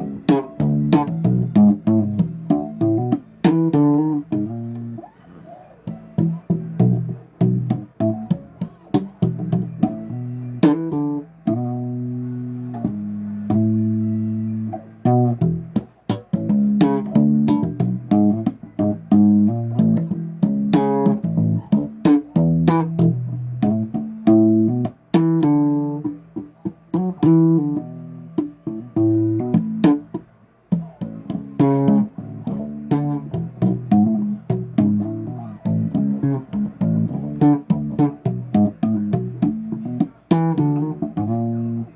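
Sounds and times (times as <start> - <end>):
bass guitar riff: 0.0 - 41.9.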